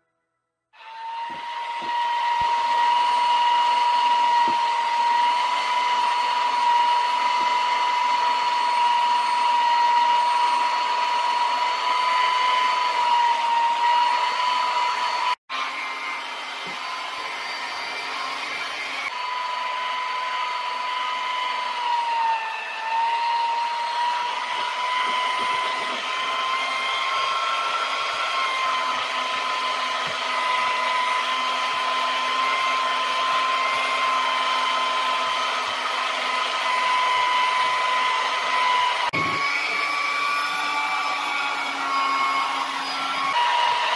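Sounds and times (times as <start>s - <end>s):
electric drill motor whine: 0.8s - 43.9s.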